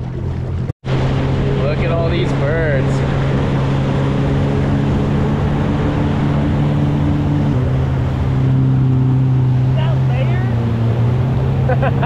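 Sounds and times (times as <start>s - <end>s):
jet ski engine running: 0.0s - 12.0s
water rushing and spraying: 0.0s - 12.0s.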